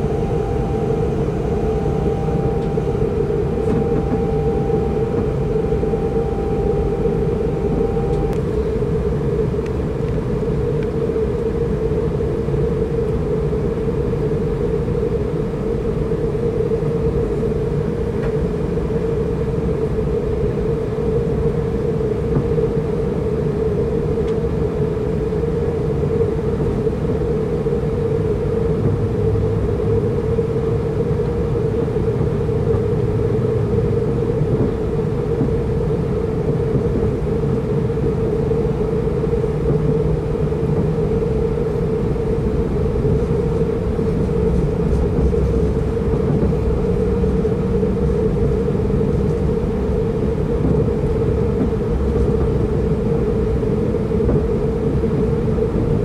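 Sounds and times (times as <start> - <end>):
constant mid-pitched hum: 0.0 - 56.0
train wheels rumbling on track: 0.0 - 56.0.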